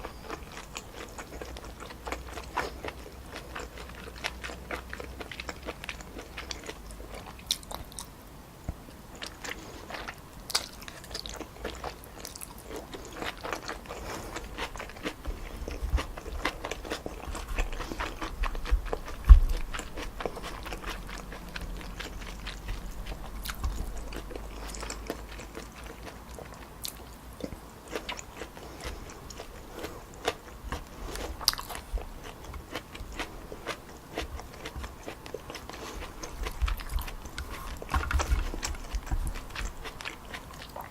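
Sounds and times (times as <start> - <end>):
chewing noodles: 0.0 - 8.2, 9.1 - 40.9.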